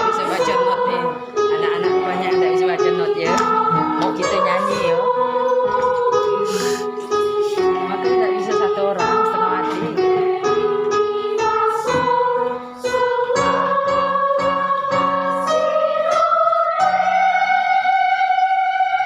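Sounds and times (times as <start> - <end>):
children singing: 0.0 - 19.0
instrumental chords: 0.0 - 19.0.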